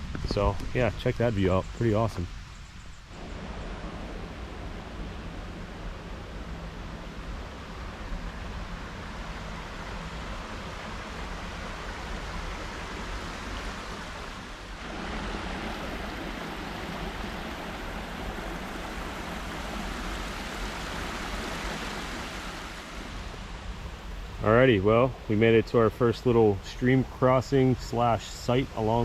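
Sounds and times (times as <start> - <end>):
creek water flowing: 3.0 - 29.0.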